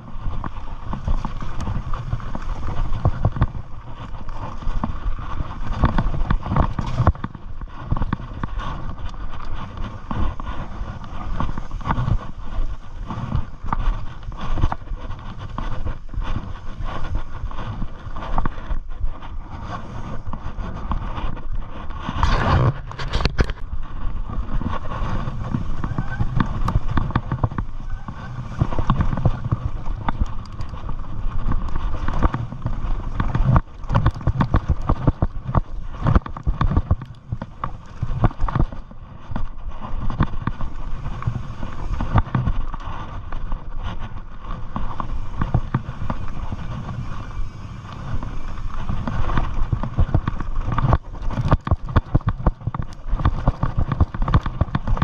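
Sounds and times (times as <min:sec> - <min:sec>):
bike rattling over bumps: 0:00.0 - 0:55.0
tyres crunching over dirt: 0:00.0 - 0:55.0
wind on microphone: 0:00.0 - 0:55.0.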